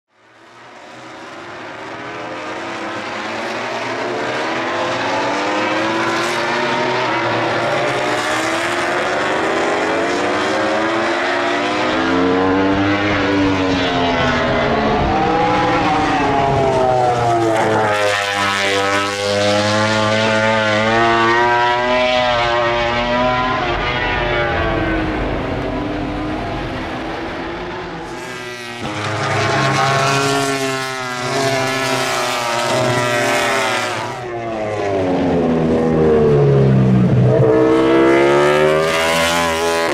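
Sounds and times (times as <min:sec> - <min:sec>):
racing motorcycle engines passing: 0:00.4 - 0:39.9.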